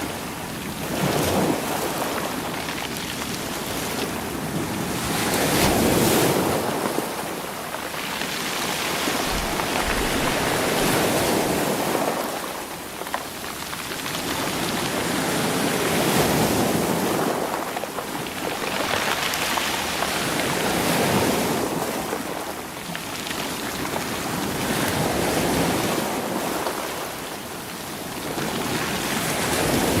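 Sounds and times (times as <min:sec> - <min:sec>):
waves washing over rocks: 0:00.0 - 0:30.0.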